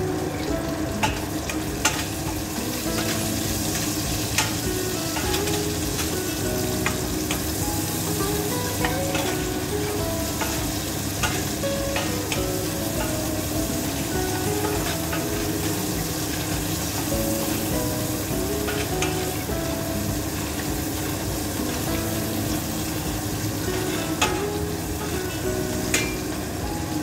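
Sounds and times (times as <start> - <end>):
chicken sizzling in a pot: 0.0 - 27.0.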